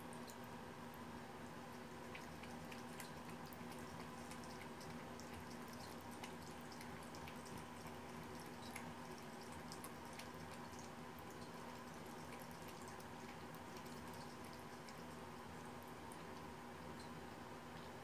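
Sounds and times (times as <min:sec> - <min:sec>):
cat lapping water: 0:01.6 - 0:17.0.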